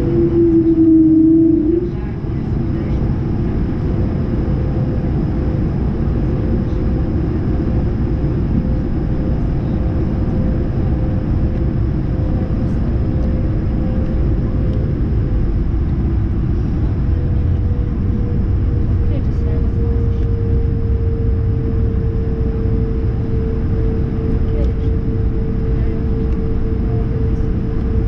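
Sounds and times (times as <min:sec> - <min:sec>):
low rumble of jet engines: 0:00.0 - 0:28.0
steady whine: 0:00.0 - 0:28.0.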